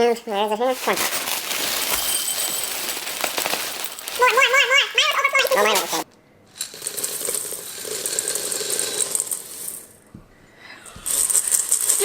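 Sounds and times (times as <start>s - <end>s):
cereal poured into a bowl: 0.8s - 6.0s, 6.6s - 10.0s, 11.0s - 12.0s.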